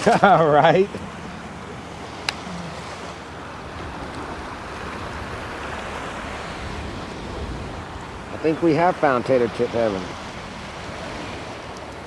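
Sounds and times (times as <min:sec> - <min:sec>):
shallow water washing: 0:00.0 - 0:12.0
wind on microphone: 0:00.9 - 0:12.0.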